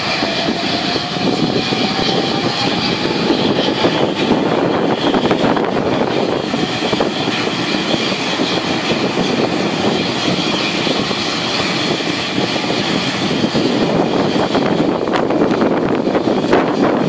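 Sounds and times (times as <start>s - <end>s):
continuous rumble: 0.0s - 17.0s
jet turbines whining: 0.0s - 17.0s.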